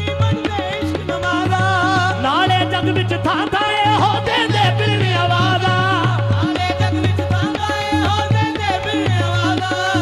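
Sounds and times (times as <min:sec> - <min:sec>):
harmonium chords: 0:00.0 - 0:10.0
tabla strokes: 0:00.0 - 0:10.0.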